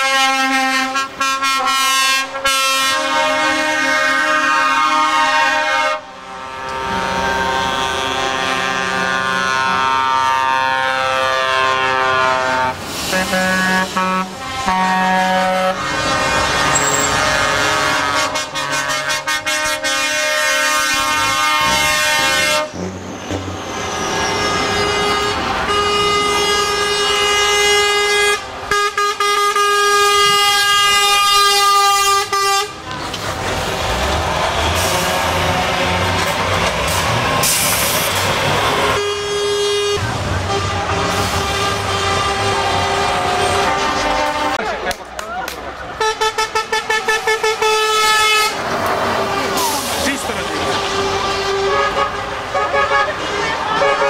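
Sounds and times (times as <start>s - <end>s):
truck air horn blasts: 0.0s - 22.8s, 23.7s - 32.9s, 34.4s - 44.7s, 46.0s - 54.0s
trucks driving past: 0.0s - 54.0s.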